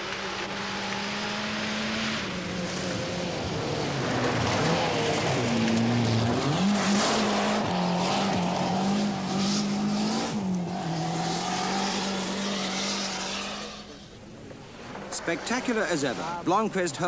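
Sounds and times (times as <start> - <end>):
rally car engine at high revs: 0.0 - 16.5.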